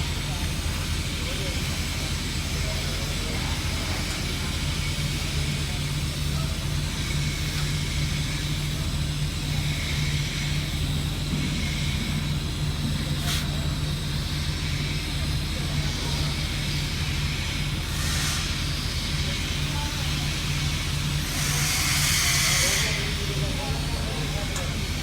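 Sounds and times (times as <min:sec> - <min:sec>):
welding hum with hiss: 0:00.0 - 0:25.0.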